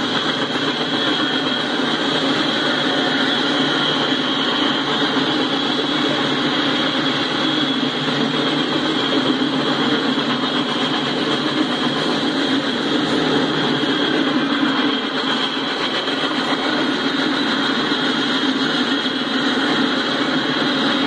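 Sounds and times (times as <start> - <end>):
steel wheels rolling on rails: 0.0 - 21.0.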